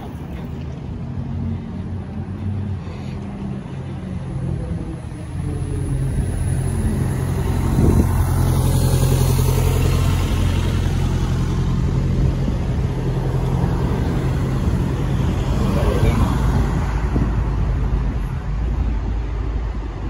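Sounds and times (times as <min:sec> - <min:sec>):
bus engine passing: 0:00.0 - 0:20.0
car approaching: 0:00.0 - 0:20.0
traffic noise: 0:00.0 - 0:20.0.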